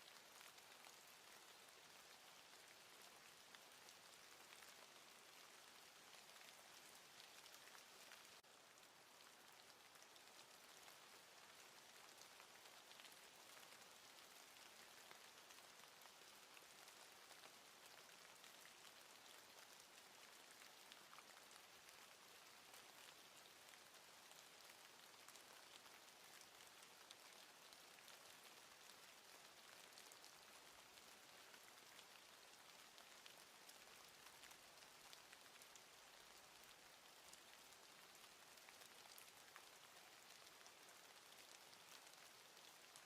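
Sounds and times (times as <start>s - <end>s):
faint patter of falling precipitation: 0.0s - 43.0s.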